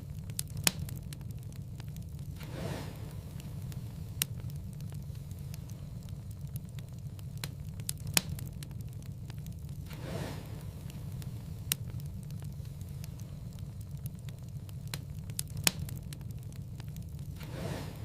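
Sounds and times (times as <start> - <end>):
wood fire burning: 0.0 - 18.0.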